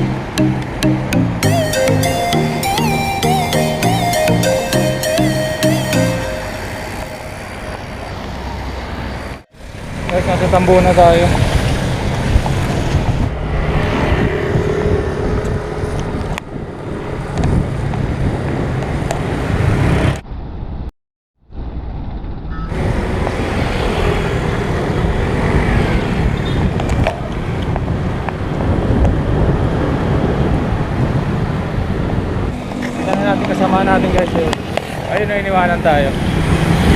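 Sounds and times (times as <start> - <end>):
passing cars: 0.0 - 20.8, 21.7 - 36.9.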